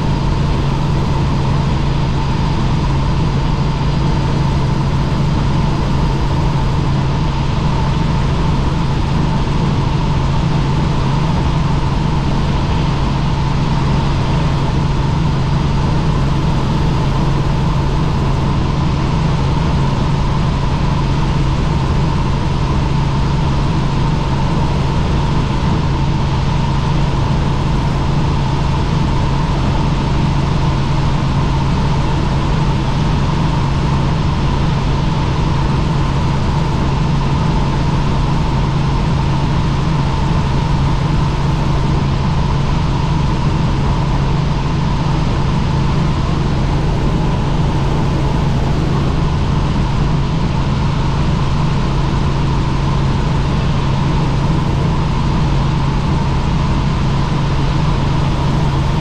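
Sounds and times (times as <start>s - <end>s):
helicopter rotor drone: 0.0s - 59.0s.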